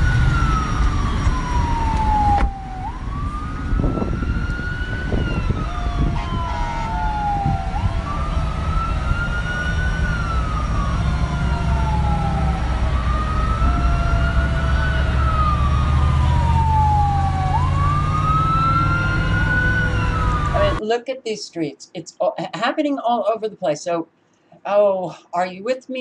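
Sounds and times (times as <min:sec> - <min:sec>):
siren wailing: 0:00.0 - 0:20.8.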